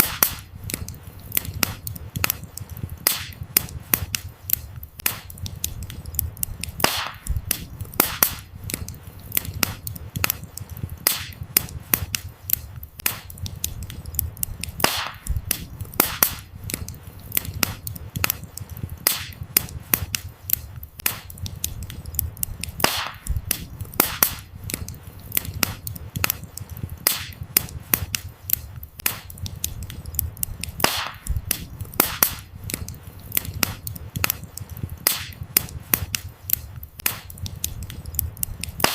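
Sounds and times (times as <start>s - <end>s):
firewood crackling and popping: 0.0s - 38.9s
low rumble of flames: 0.0s - 38.9s.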